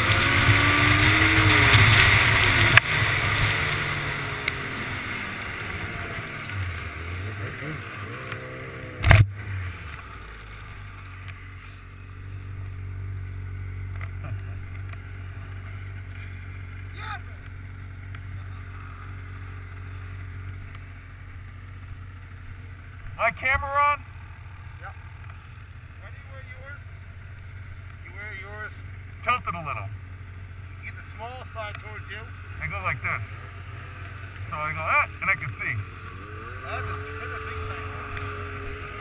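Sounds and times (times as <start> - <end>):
snowmobile engine: 0.0 - 39.0.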